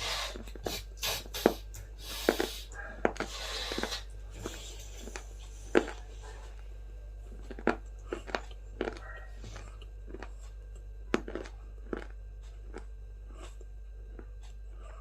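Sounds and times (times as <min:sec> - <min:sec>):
crunchy food being chewed: 0:00.1 - 0:15.0.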